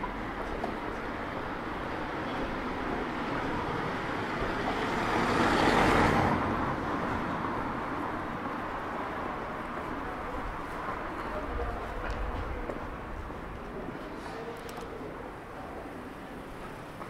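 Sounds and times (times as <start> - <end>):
street hum: 0.0 - 17.0.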